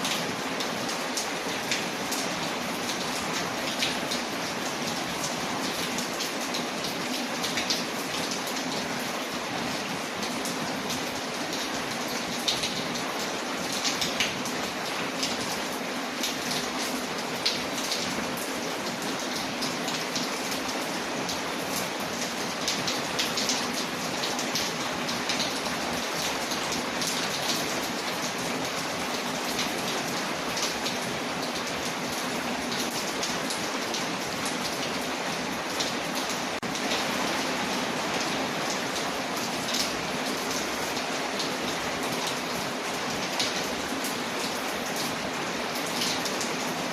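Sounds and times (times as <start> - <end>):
rain on a window: 0.0 - 46.9.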